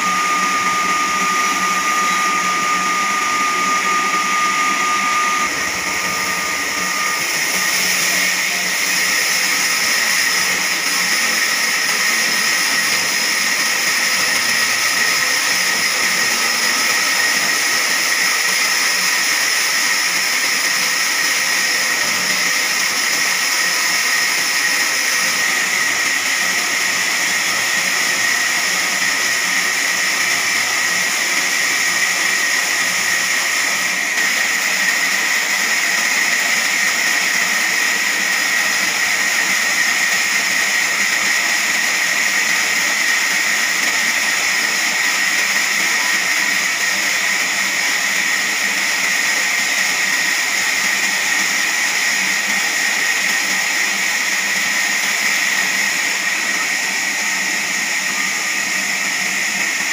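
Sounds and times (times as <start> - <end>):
band saw cutting through log: 0.0 - 59.9.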